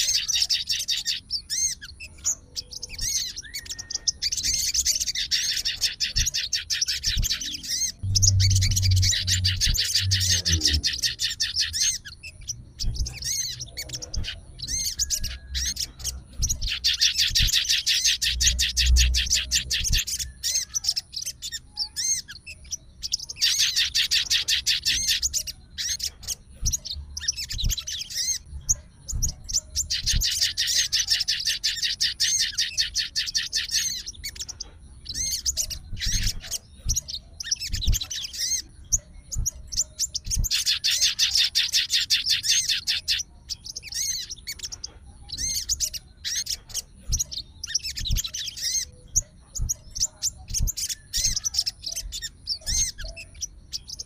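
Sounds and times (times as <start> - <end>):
bird chirps: 0.0 - 54.0
bird trilling song: 0.0 - 54.0.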